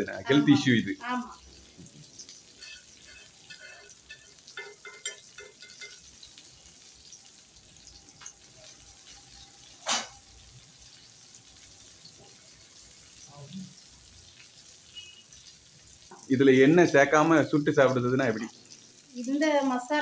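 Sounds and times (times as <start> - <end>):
fish sizzling in oil: 0.0 - 20.0.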